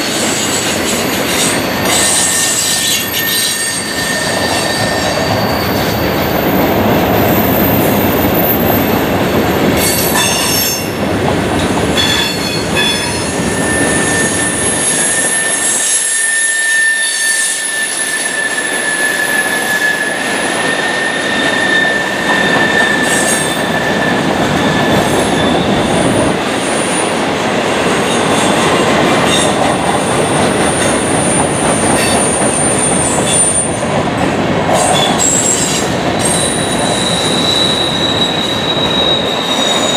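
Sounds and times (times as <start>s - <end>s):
train wheels squealing: 0.0s - 9.0s, 12.0s - 27.0s, 30.3s - 33.8s, 34.7s - 39.9s
freight train rumbling on rails: 0.0s - 39.9s
train cars clanking: 0.0s - 39.9s.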